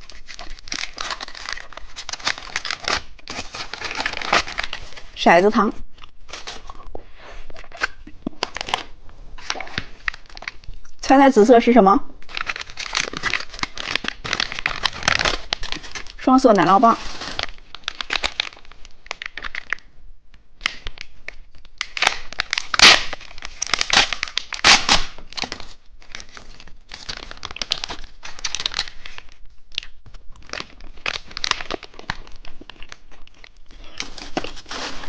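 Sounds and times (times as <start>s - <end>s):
plastic wrapper crinkling and tearing: 0.0s - 5.2s, 5.9s - 10.9s, 12.2s - 19.9s, 20.6s - 35.0s.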